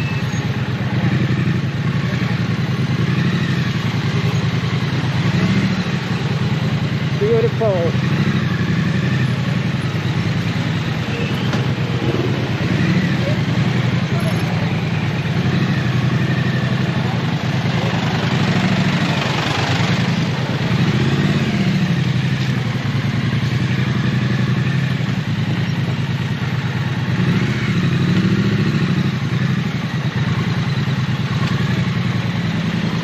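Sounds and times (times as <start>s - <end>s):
motorcycle engine in traffic: 0.0s - 33.0s.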